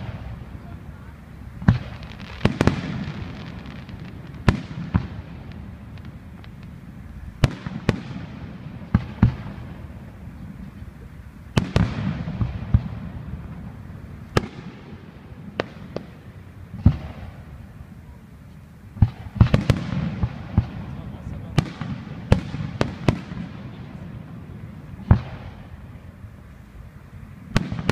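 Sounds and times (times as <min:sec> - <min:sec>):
firework crackling trail: 0:00.0 - 0:27.9.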